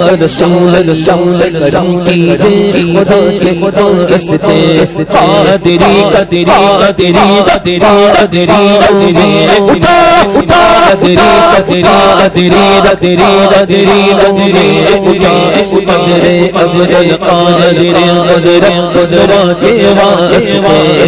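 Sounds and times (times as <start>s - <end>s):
man singing in chant-like style: 0.0s - 21.0s.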